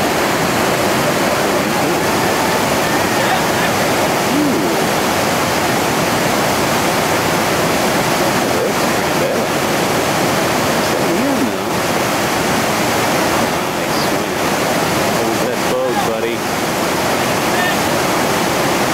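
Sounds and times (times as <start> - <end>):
river rushing over boulders: 0.0 - 18.9.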